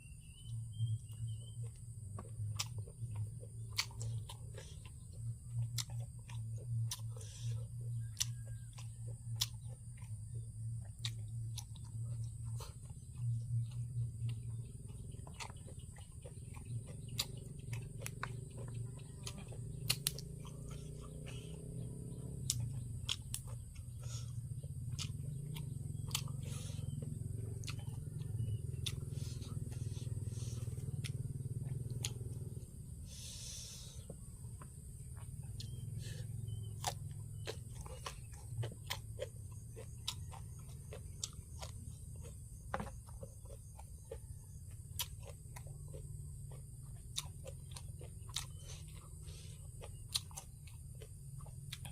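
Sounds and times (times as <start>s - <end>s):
chewing: 0.0s - 51.9s
low hum: 0.0s - 51.9s
mouth clicks and smacks: 1.6s - 51.9s.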